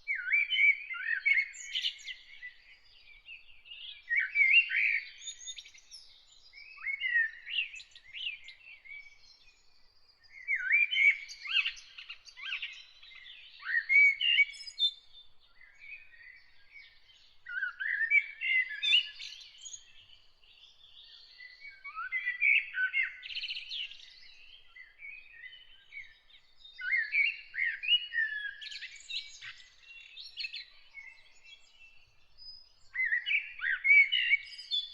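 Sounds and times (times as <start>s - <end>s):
bird singing chirps and warbles: 0.0s - 34.9s.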